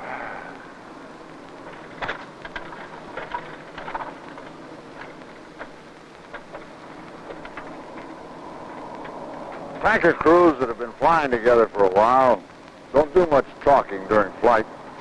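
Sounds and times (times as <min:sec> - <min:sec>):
steady rushing noise: 0:00.0 - 0:15.0
clicks and crackles: 0:01.1 - 0:15.0.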